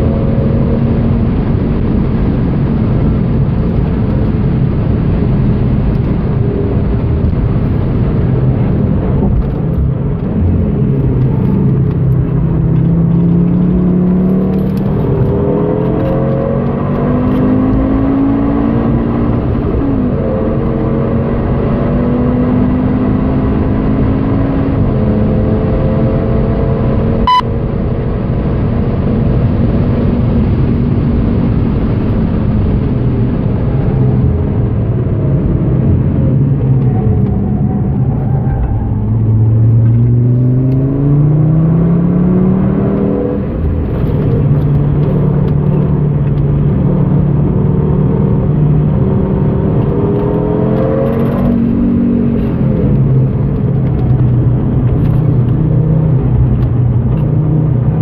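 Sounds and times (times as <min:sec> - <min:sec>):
car engine accelerating: 0:00.0 - 0:58.0
wind and road noise: 0:00.0 - 0:58.0.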